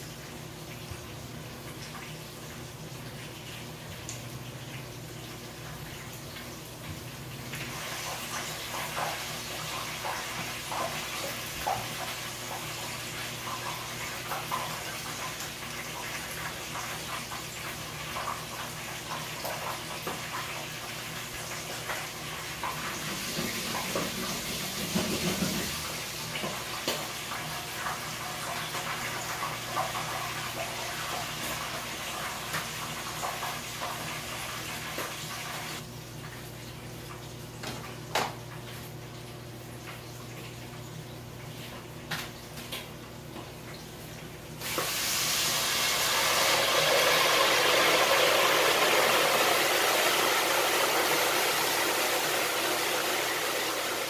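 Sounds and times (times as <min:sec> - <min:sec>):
meat deep-frying in oil: 0:00.0 - 0:54.0.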